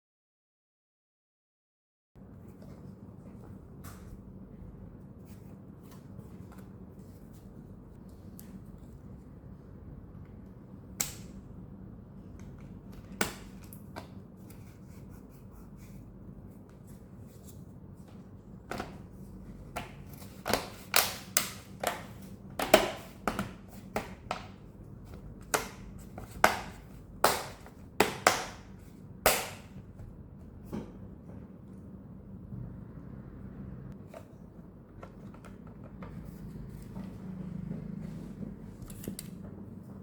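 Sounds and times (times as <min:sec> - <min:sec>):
low steady hum: 0:02.2 - 0:40.0.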